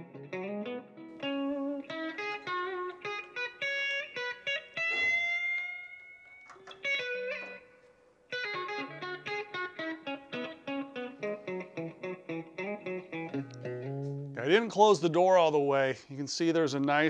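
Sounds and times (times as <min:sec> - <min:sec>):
plucked guitar melody: 0:00.0 - 0:15.2.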